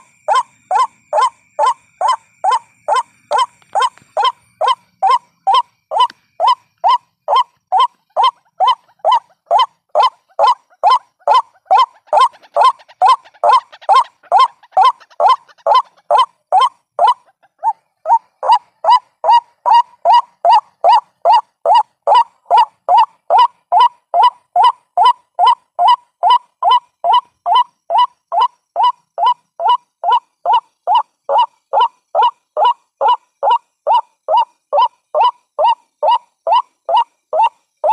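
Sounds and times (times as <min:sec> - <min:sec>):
waterhen croaking calls: 0:00.0 - 0:37.9.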